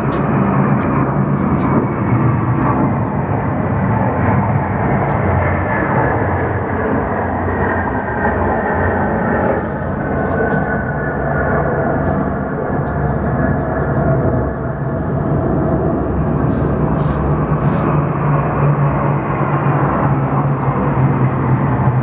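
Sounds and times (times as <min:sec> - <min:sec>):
heavy engines droning: 0:00.0 - 0:22.0.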